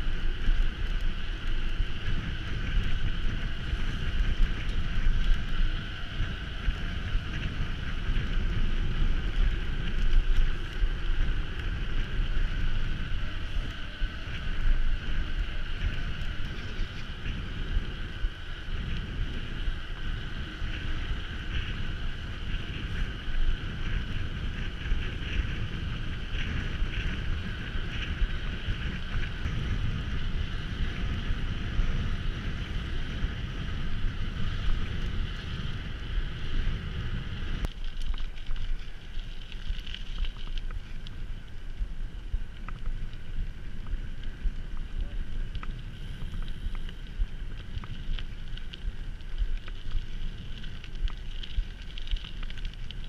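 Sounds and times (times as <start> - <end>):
bike riding whir: 0.0 - 53.0
wind buffeting microphone: 0.0 - 53.0.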